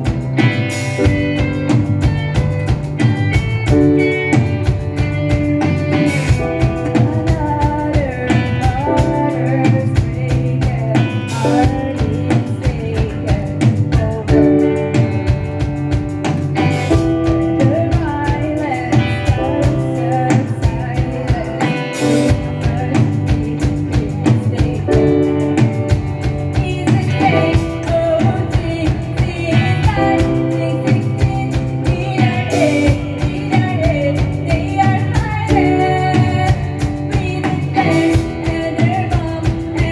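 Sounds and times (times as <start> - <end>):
bass guitar: 0.0 - 39.9
drum kit beat: 0.0 - 39.9
electric guitars: 0.0 - 39.9
piano: 0.0 - 39.9
person singing: 5.7 - 15.2, 16.6 - 25.9, 26.5 - 39.9.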